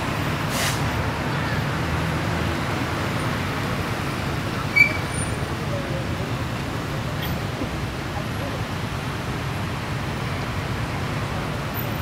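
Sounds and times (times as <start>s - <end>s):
diesel engines rumbling: 0.0s - 12.0s
road traffic: 0.0s - 12.0s.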